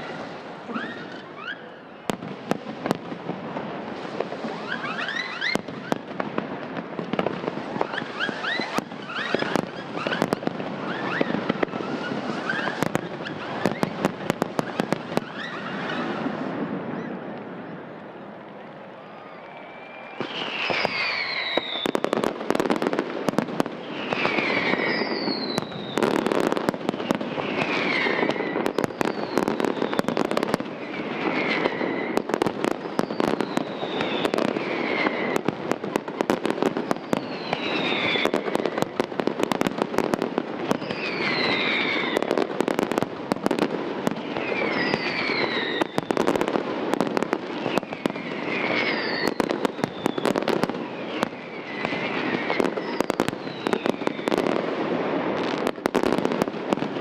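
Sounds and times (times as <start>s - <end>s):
falling firework whistle: 0.0s - 18.1s, 18.8s - 57.0s
fireworks bangs and crackling: 0.0s - 57.0s.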